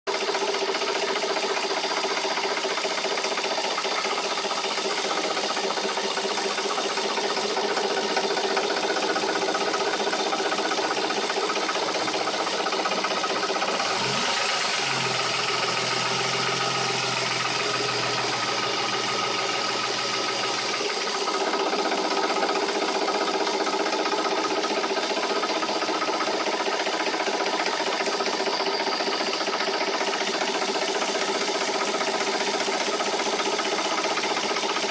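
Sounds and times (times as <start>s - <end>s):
car engine idling: 0.1s - 34.9s
engine bay rattle: 1.2s - 34.9s.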